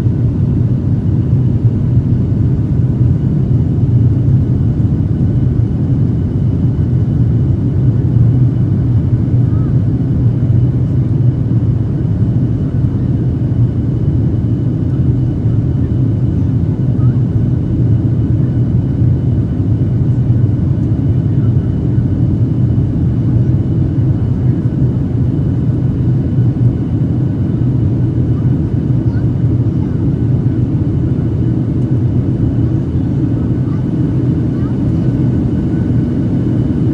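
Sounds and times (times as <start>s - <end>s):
airliner cabin engine roar: 0.0s - 36.9s.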